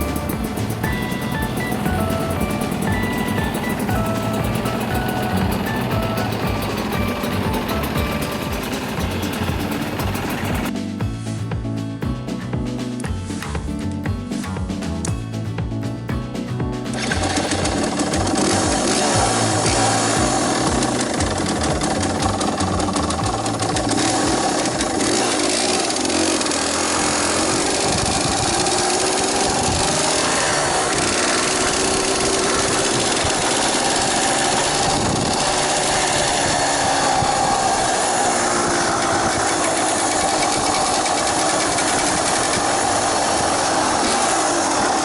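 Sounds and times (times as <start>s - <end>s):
two-stroke motorcycle engine: 0.0s - 11.6s, 12.6s - 45.0s
constant rushing noise: 0.0s - 45.0s.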